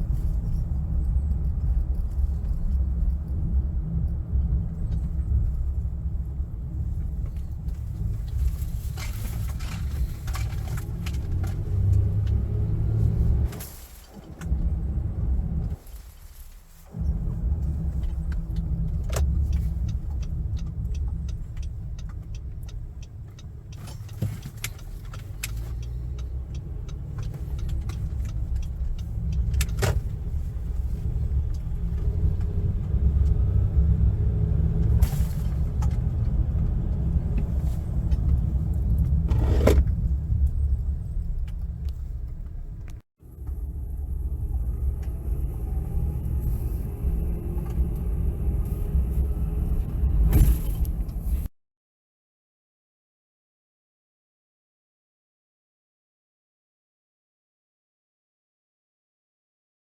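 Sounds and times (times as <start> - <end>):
engine and road noise rumble: 0.0 - 51.5.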